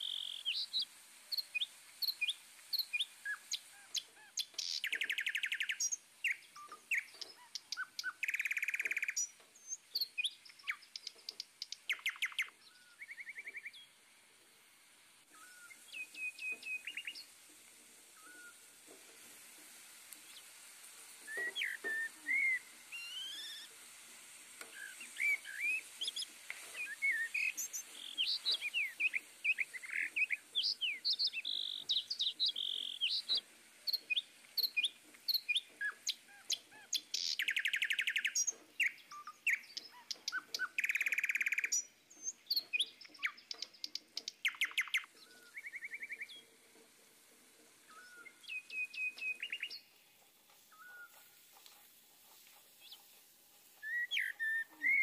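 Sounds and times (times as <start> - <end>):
rapid buzzy bird trills: 0.0 - 13.9, 20.2 - 23.8, 24.7 - 46.5, 48.0 - 55.0
small birds chirping: 0.0 - 55.0.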